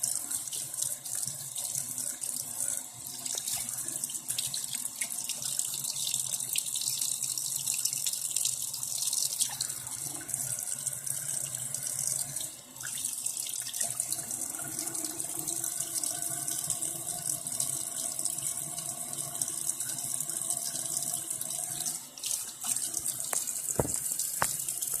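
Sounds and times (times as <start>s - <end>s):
tap water running into sink: 0.0s - 25.0s.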